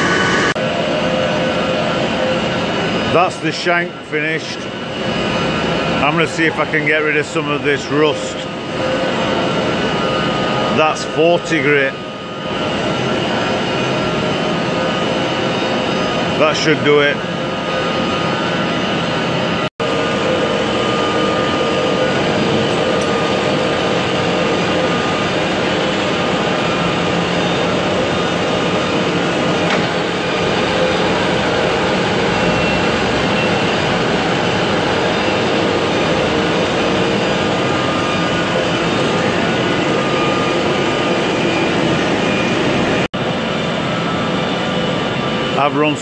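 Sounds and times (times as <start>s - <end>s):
metal lathe running: 0.0s - 46.0s.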